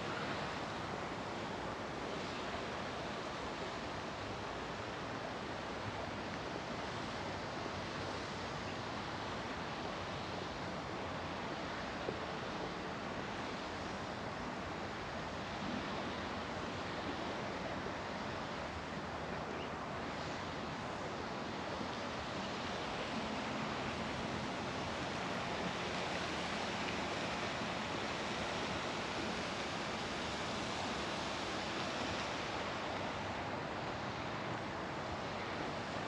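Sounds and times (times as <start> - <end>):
rushing park background noise: 0.0 - 36.0.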